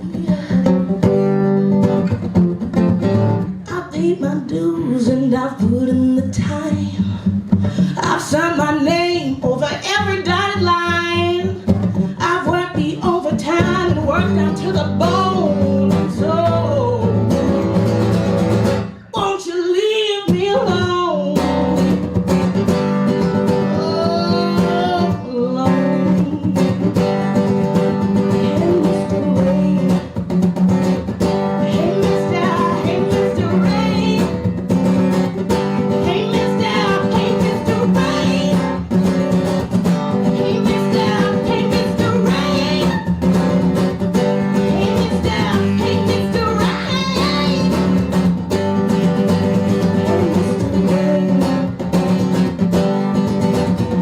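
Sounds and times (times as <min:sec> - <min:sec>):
live blues band: 0:00.0 - 0:19.3, 0:20.2 - 0:54.0.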